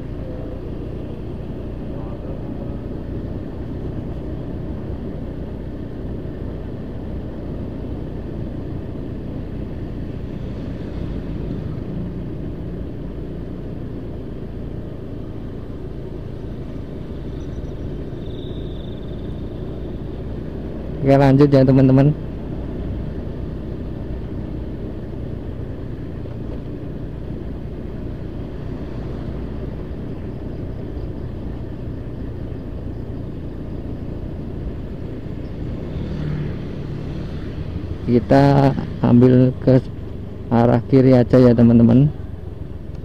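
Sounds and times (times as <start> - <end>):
motorcycle engine rumble: 0.0 - 43.0.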